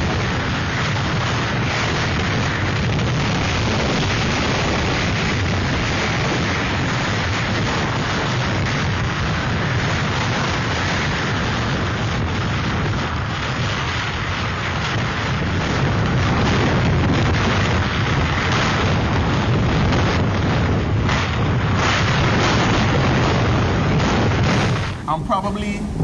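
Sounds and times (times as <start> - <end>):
driving rain: 0.0 - 26.0
hurricane-force wind: 0.0 - 26.0
wind buffeting microphone: 0.0 - 26.0.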